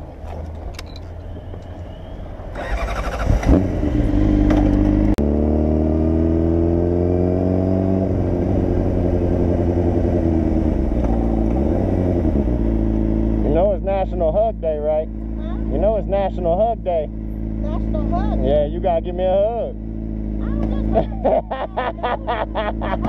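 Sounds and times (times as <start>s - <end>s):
motorcycle engine pulling away: 1.0s - 13.6s, 15.1s - 21.3s.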